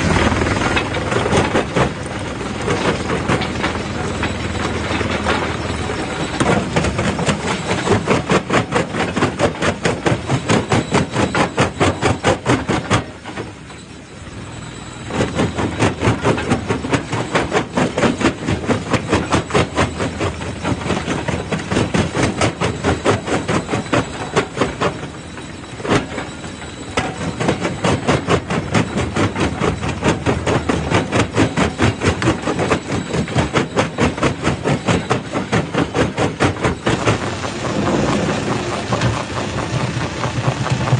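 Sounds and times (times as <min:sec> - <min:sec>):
rock crusher clattering: 0:00.0 - 0:14.0, 0:14.8 - 0:40.9.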